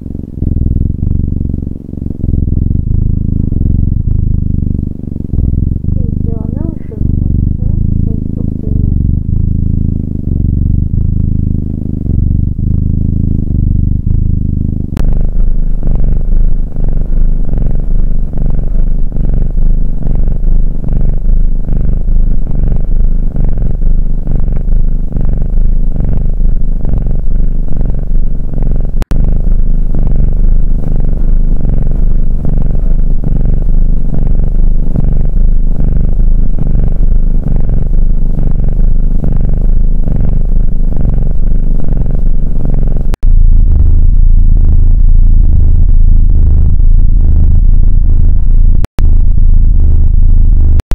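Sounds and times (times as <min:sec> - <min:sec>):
cat purring: 0:00.0 - 0:49.6.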